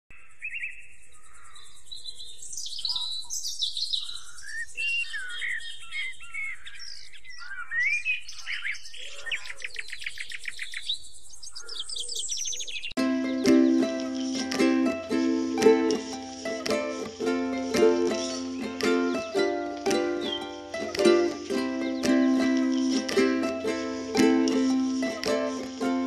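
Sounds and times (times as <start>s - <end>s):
birds chirping and whistling: 0.1s - 26.0s.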